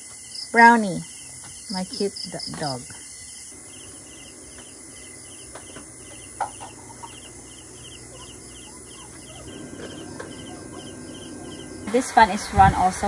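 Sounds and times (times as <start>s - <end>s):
high-pitched insect hiss: 0.0s - 13.0s
insects chirping: 0.0s - 13.0s.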